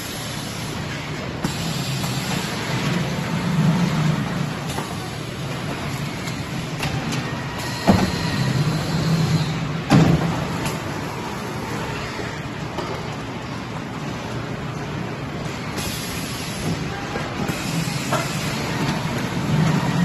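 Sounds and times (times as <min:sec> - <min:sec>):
conveyor assembly line running: 0:00.0 - 0:20.0.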